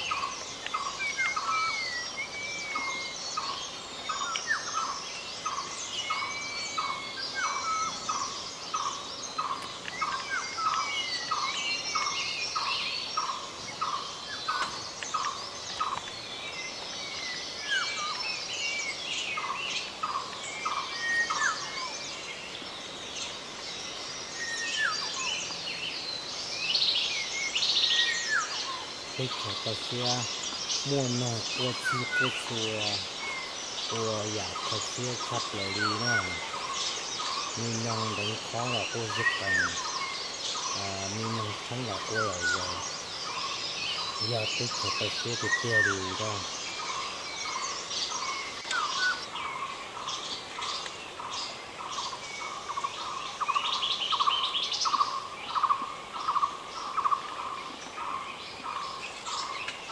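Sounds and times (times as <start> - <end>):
birds chirping and whistling: 0.0 - 59.9.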